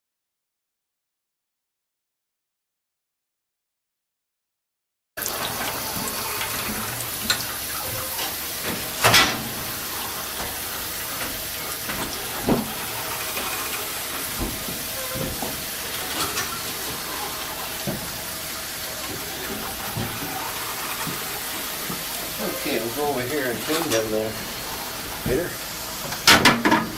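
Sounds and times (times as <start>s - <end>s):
engine room rushing hiss: 5.2s - 26.9s.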